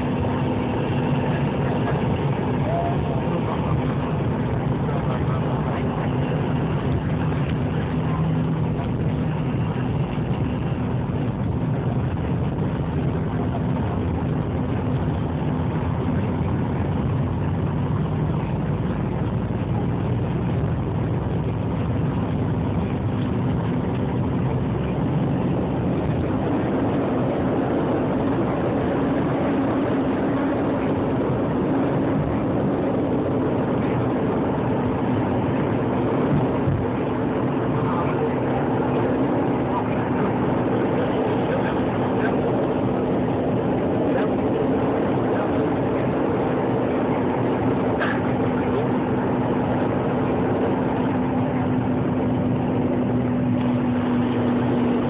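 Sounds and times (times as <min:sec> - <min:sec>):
jet engine rush in cabin: 0:00.0 - 0:55.0
low hum: 0:00.0 - 0:55.0.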